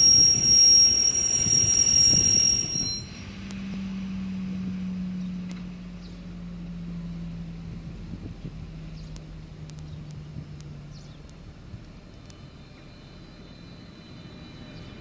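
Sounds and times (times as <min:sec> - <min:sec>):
locomotive engine hum: 0:00.0 - 0:15.0.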